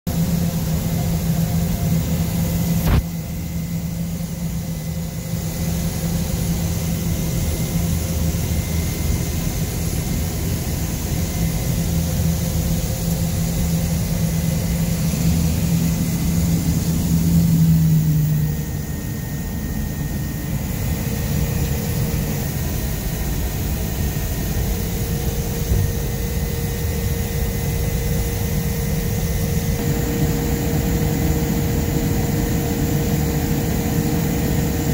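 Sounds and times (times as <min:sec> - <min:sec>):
airplane engine hum in cabin: 0:00.1 - 0:34.9.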